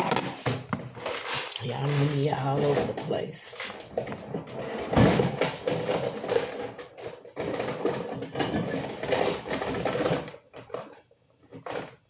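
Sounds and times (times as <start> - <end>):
dishes clinking and clattering: 0.0 - 11.9.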